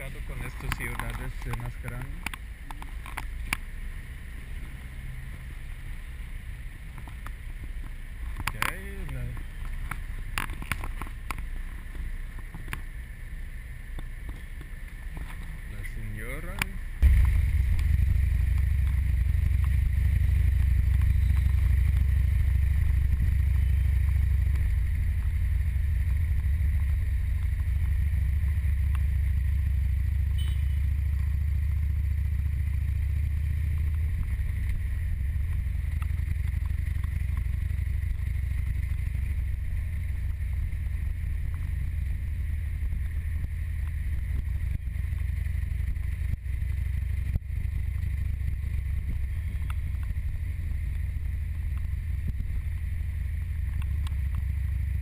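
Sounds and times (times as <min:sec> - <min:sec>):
motorcycle engine rumble: 0:00.0 - 0:55.0.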